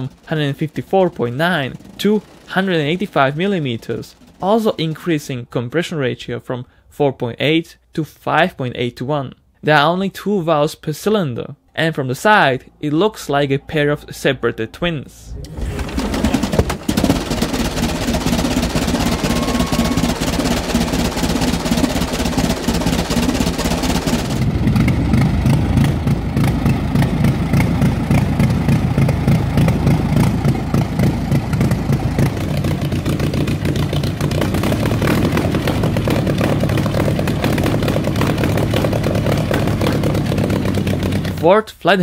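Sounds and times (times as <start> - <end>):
car engine running: 0.0 - 5.5, 12.2 - 41.4.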